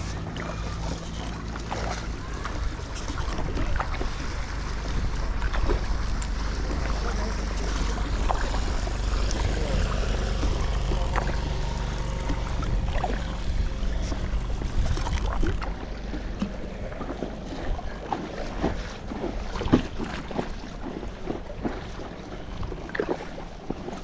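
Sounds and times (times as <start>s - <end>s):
low rumble: 0.0s - 21.7s
paddle strokes splashing: 0.0s - 24.0s.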